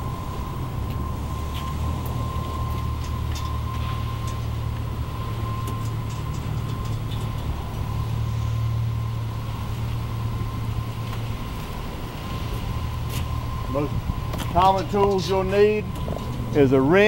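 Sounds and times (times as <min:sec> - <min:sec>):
faint high whine: 0:00.0 - 0:17.0
machinery rumbling: 0:00.0 - 0:17.0.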